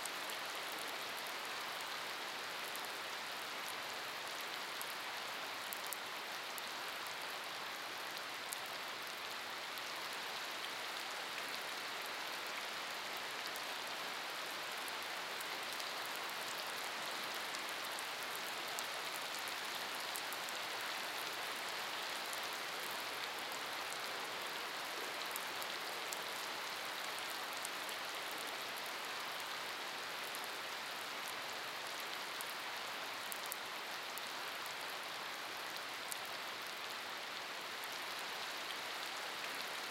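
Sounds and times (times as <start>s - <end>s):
rain on wet pavement: 0.0s - 39.9s.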